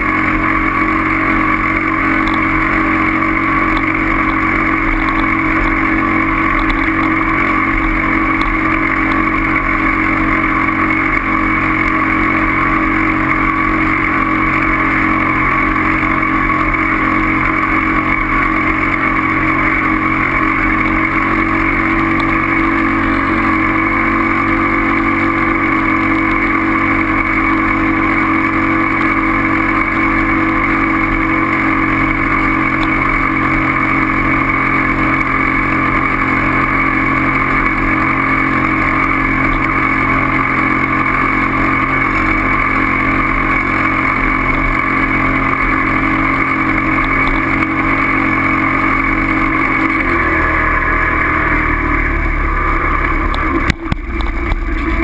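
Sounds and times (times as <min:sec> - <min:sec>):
steady mechanical drone: 0:00.0 - 0:55.0.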